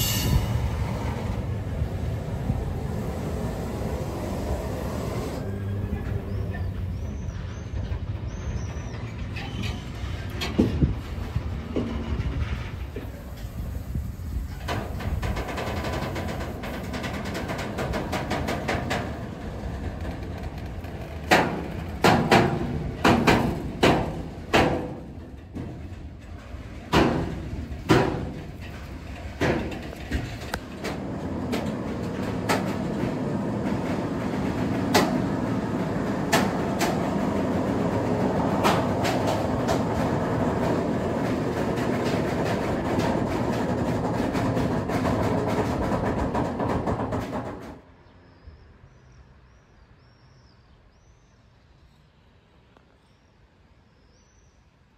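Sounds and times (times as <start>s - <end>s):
wagons knocking and clanking: 0.0s - 47.9s
freight train wagons rumbling: 0.0s - 49.0s.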